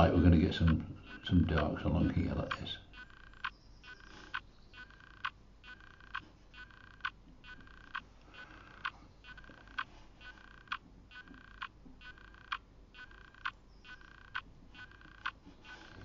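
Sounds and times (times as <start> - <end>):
clock ticking: 0.0 - 16.0
faint room noise: 0.0 - 16.0.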